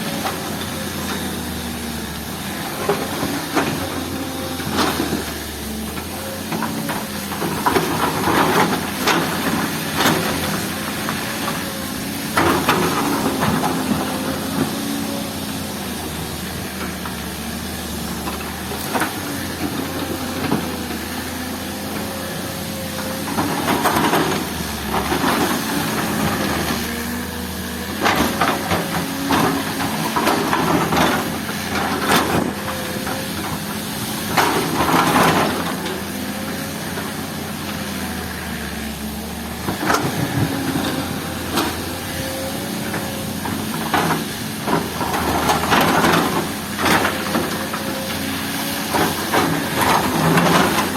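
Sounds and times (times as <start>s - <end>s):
diesel engine running: 0.0s - 50.9s
machine digging earth and rock: 0.0s - 50.9s.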